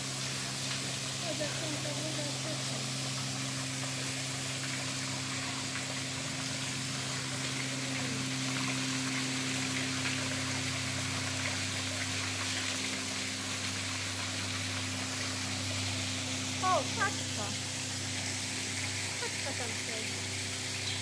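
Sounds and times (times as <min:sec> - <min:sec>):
waterfall trickling into pool: 0:00.0 - 0:21.0.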